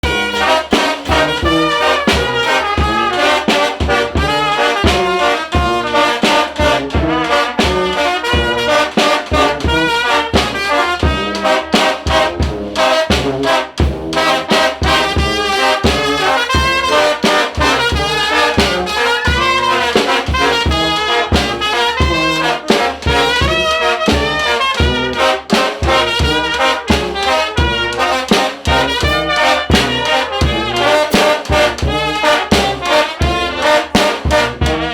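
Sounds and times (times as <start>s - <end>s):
brass band playing: 0.0s - 34.9s.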